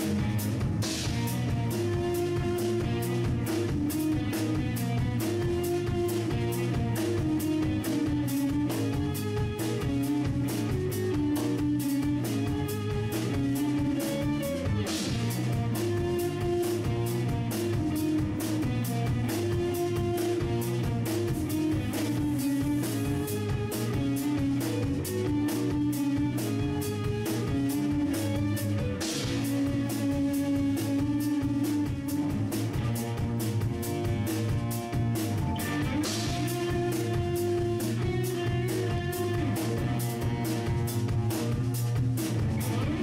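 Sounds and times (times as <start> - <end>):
drum kit steady beat: 0.0 - 43.0
guitars: 0.0 - 43.0.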